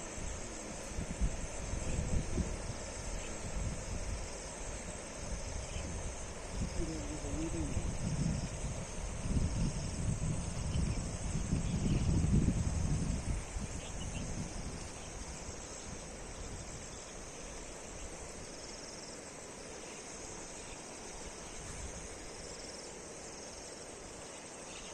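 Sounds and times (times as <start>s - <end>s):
crickets chirring: 0.0s - 24.9s.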